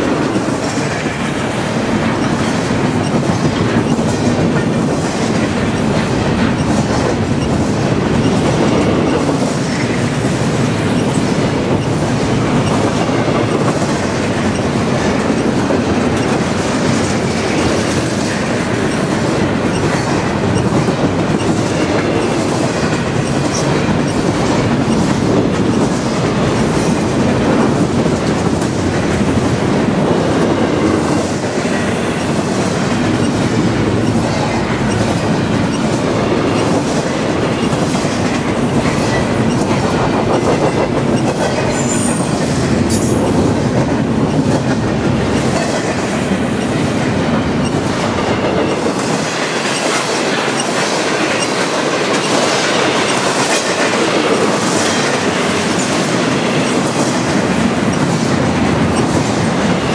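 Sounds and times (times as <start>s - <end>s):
freight train rolling past: 0.0s - 59.9s
steel wheels clattering on rails: 0.0s - 59.9s.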